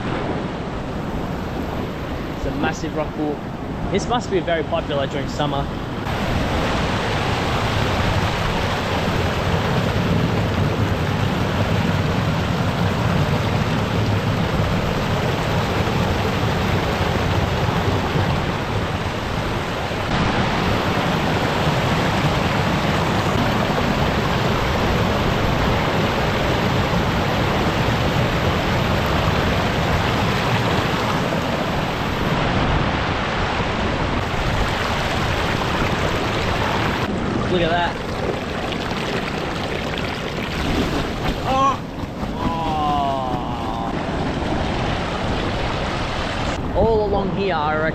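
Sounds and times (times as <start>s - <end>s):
surf rushing over rocks: 0.0s - 47.8s.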